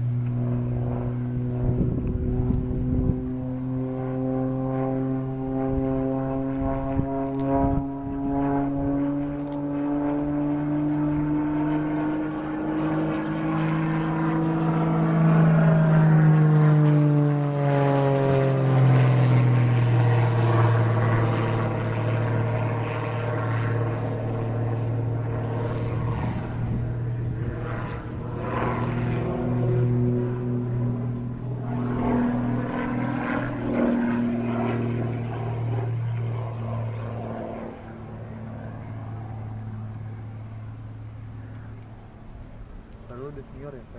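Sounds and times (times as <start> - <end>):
propeller plane droning overhead: 0.0 - 43.9.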